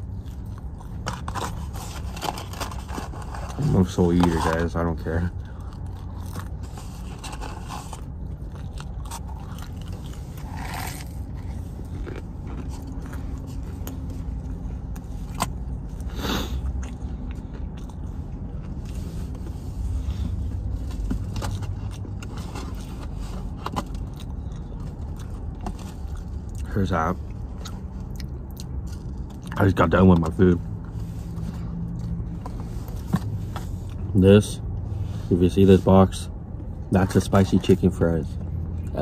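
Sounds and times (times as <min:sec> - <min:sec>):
person chewing crispy food: 0:00.0 - 0:34.1
low rumble in car cabin: 0:00.0 - 0:39.0.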